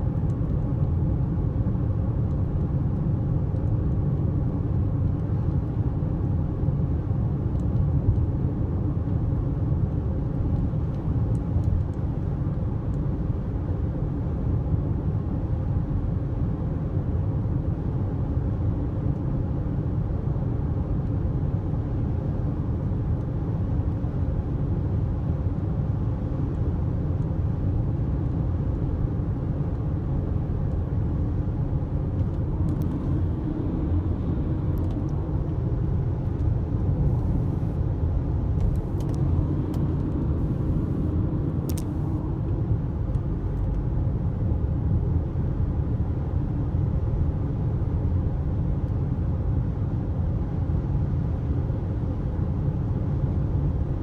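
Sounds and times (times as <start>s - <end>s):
car road rumble from inside: 0.0s - 54.0s.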